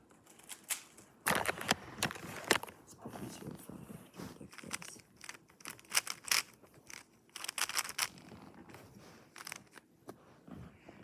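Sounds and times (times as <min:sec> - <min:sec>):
rustling: 0:00.0 - 0:02.9, 0:04.2 - 0:10.8.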